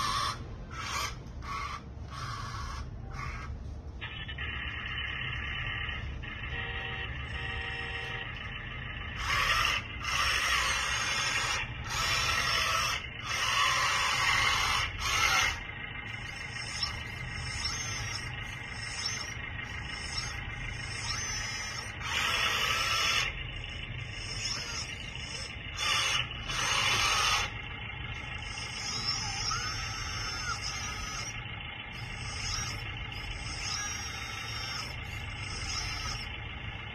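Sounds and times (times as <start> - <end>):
low steady hum: 0.0 - 36.9
motors whirring: 0.0 - 36.9.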